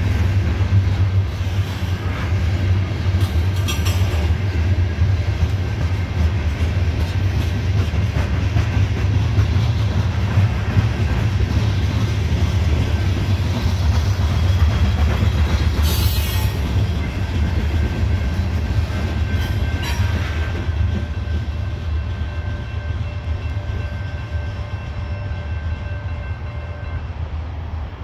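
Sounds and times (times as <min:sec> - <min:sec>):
train cars rumbling past: 0:00.0 - 0:28.0.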